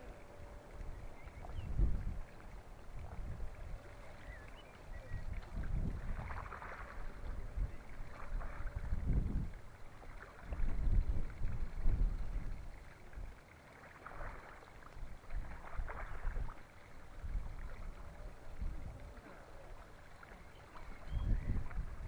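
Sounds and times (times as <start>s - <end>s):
wind buffeting microphone: 0.0s - 13.4s, 15.0s - 19.8s, 20.4s - 22.0s.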